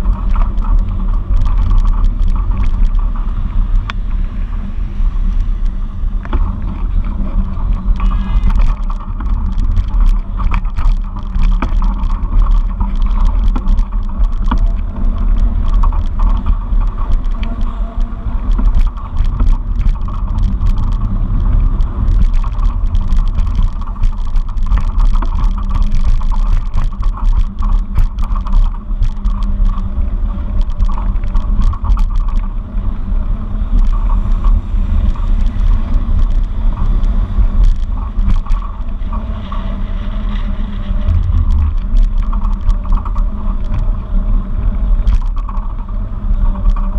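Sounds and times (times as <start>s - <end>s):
small clicks and rattles: 0.0s - 46.9s
steady road noise: 0.0s - 46.9s
wind rumbling on microphone: 0.0s - 46.9s.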